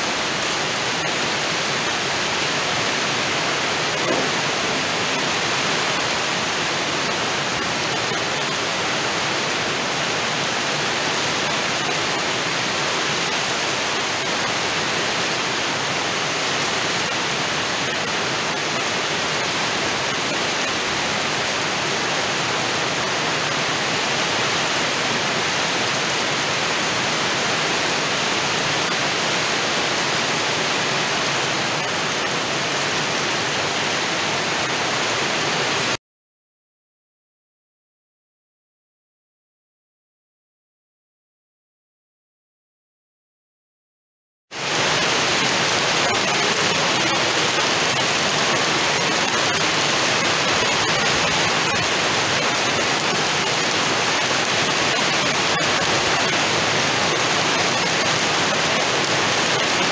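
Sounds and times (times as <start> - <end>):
heavy rain pouring: 0.0 - 36.0, 44.5 - 59.9.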